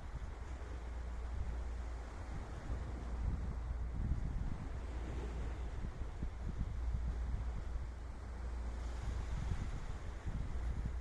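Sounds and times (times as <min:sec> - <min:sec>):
sea water lapping: 0:00.0 - 0:11.0
wind buffeting microphone: 0:00.0 - 0:11.0.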